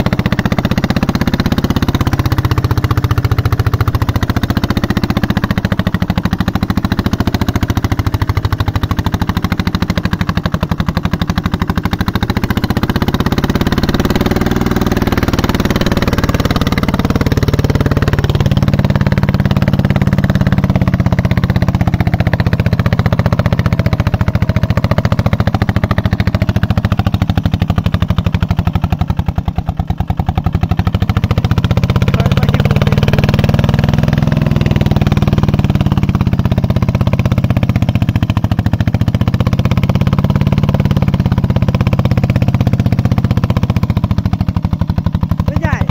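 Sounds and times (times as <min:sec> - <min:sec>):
diesel tractor engine chugging: 0:00.0 - 0:45.9.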